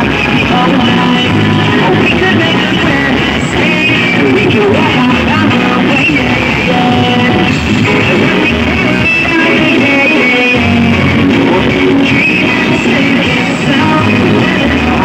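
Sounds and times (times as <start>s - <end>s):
loud music through speakers: 0.0s - 15.0s.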